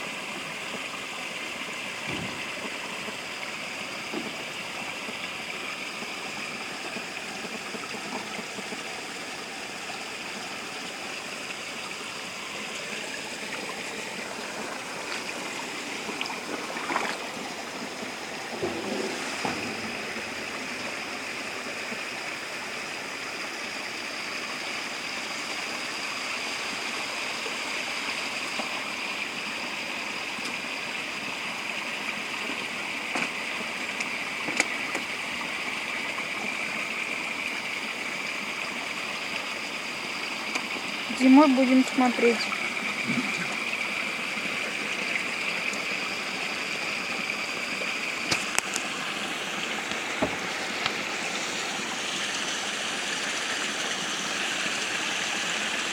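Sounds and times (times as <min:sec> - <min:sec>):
spring water gurgling: 0:00.0 - 0:55.9.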